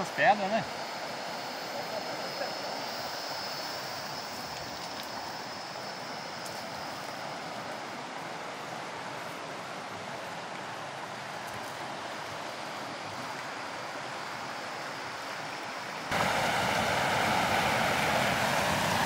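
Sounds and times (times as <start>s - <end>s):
river water rushing over rocks: 2.8s - 19.0s.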